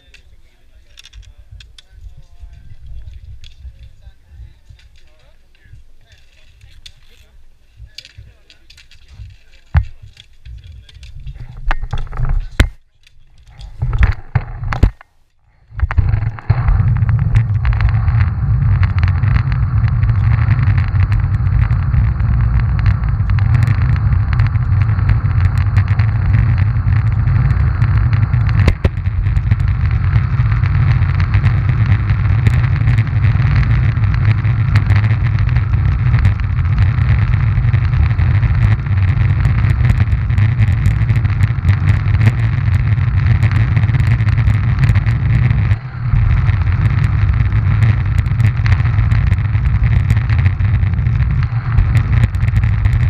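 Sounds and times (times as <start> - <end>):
ski wheels rumbling on asphalt: 0.0 - 53.0
small clicks: 0.9 - 4.0, 8.0 - 53.0.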